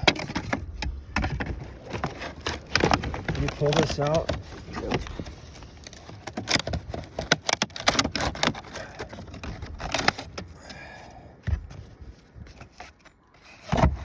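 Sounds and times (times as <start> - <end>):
dry wood cracking and scraping: 0.0 - 14.0.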